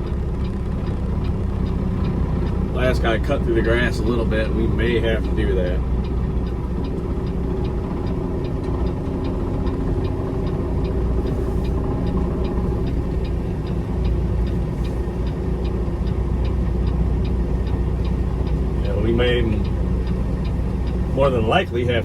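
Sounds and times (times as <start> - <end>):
light even ticking: 0.0 - 22.0
truck diesel engine running: 0.0 - 22.0.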